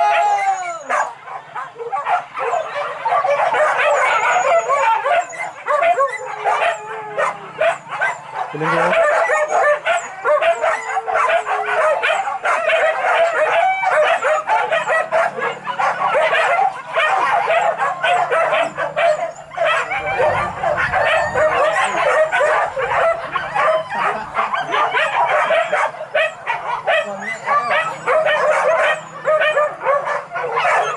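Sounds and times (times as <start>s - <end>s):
dogs baying and yelping: 0.0s - 30.9s.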